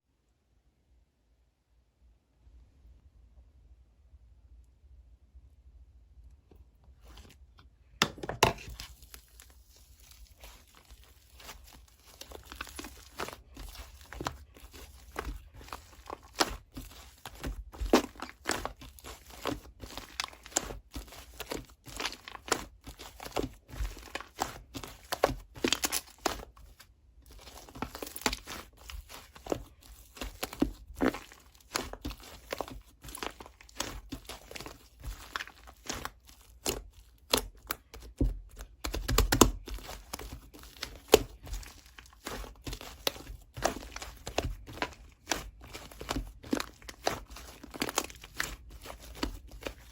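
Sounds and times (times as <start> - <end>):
crinkling and clicking handling: 6.4 - 49.9.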